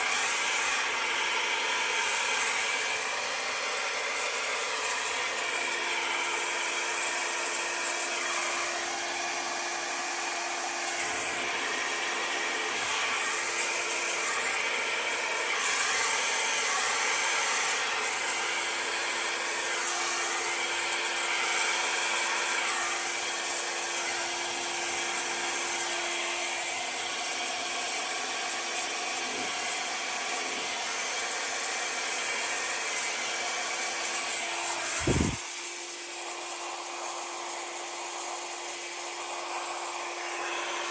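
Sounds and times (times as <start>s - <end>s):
electric blower whirring: 0.0s - 40.9s.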